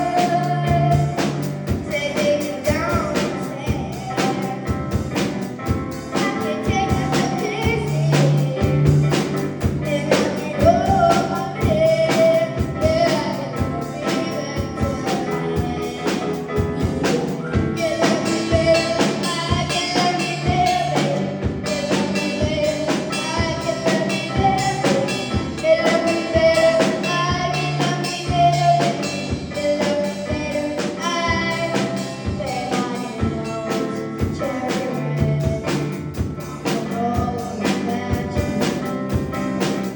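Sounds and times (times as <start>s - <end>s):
backing band with drums: 0.0s - 39.9s
person singing pop song: 0.0s - 39.9s.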